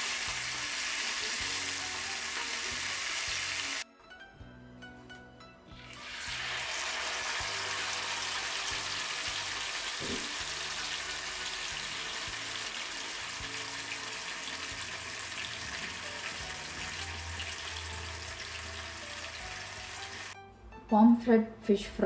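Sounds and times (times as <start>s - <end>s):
fish sizzling in hot oil: 0.0s - 3.8s, 5.8s - 20.4s.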